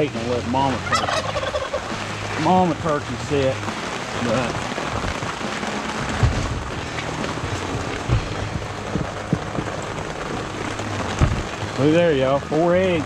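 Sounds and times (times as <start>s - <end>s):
rain on plastic tarp: 0.0s - 13.0s.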